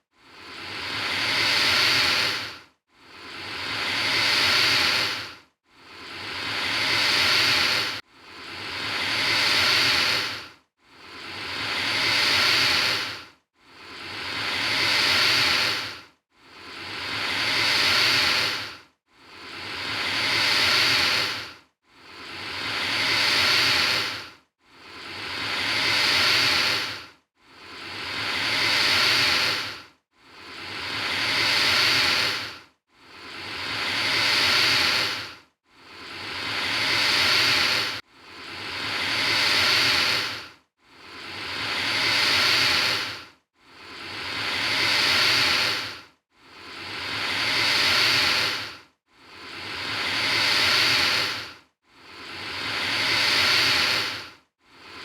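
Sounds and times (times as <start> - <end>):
alligator hissing: 0.4 - 2.5, 3.2 - 5.3, 5.9 - 8.0, 8.6 - 10.4, 11.1 - 16.0, 16.6 - 24.2, 24.9 - 27.0, 27.6 - 29.8, 30.4 - 32.6, 33.2 - 40.4, 41.0 - 46.0, 46.7 - 48.7, 49.4 - 54.2.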